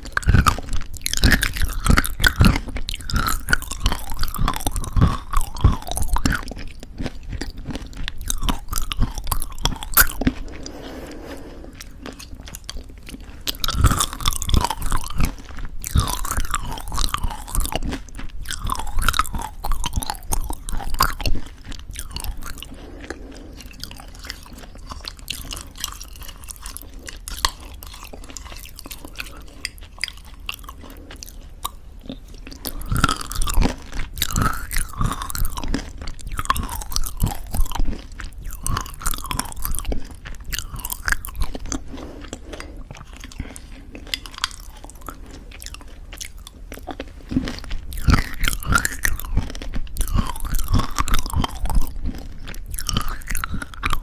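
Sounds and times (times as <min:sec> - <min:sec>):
chewing crunchy granola: 0:00.0 - 0:54.0
soft mouth sounds: 0:00.0 - 0:54.0.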